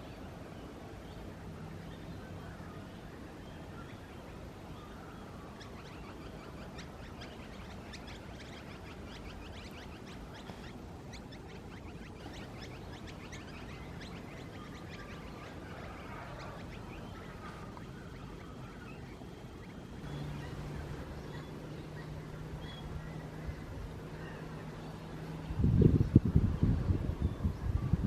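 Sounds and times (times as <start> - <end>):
birds chirping and twittering: 0.0 - 28.0
steady low background noise: 0.0 - 28.0.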